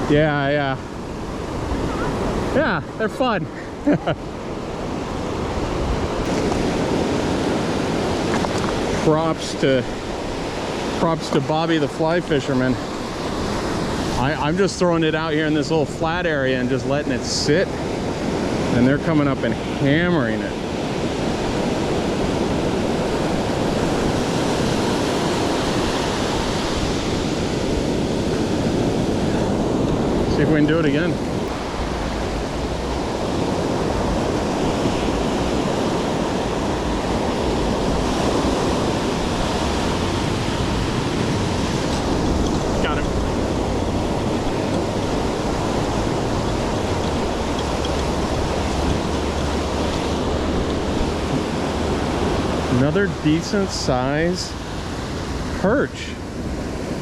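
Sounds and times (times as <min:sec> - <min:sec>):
small waves breaking on beach: 0:00.0 - 0:57.0
wind on microphone: 0:03.7 - 0:57.0.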